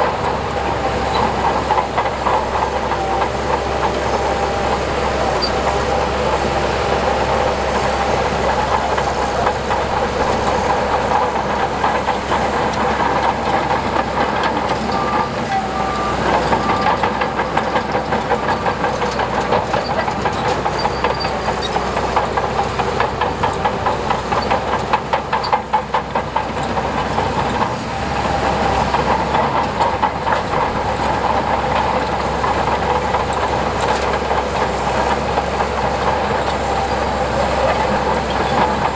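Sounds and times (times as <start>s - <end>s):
bulldozer diesel engine running: 0.0s - 38.9s
metallic track clatter: 0.0s - 38.9s.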